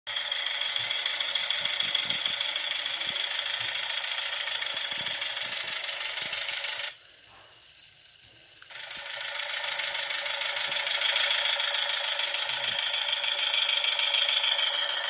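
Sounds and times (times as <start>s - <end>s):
engine sound effect on small speaker: 0.1s - 7.5s, 8.5s - 15.0s.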